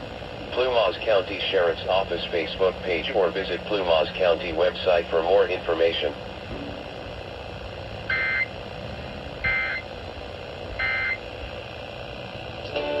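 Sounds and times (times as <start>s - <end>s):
radio noise hiss: 0.0s - 13.0s.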